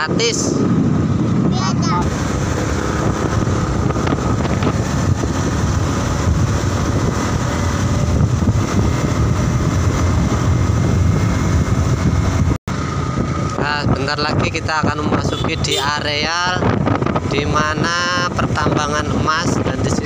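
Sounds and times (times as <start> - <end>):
motorcycle engine rumble: 0.0 - 20.0
wind buffeting microphone: 0.0 - 20.0.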